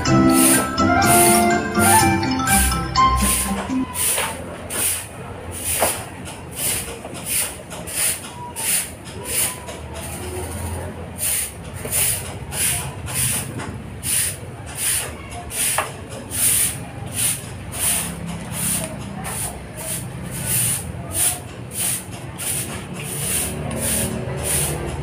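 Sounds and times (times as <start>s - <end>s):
broom sweeping leaves on concrete: 0.0s - 25.0s.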